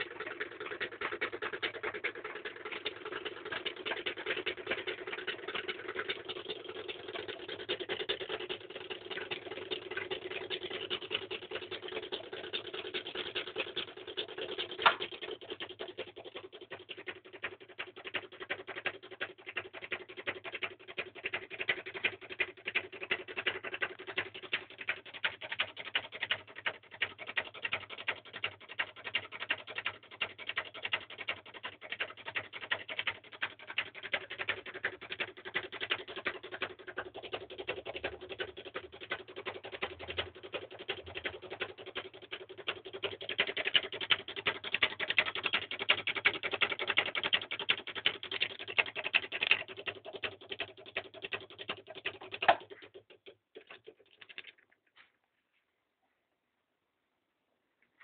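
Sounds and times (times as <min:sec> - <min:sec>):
fast dense clicking: 0:00.0 - 0:54.8.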